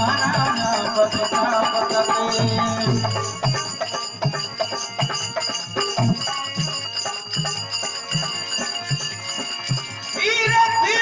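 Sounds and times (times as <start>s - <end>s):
steady drum beat: 0.0s - 11.0s
sustained instrumental tones: 0.0s - 11.0s.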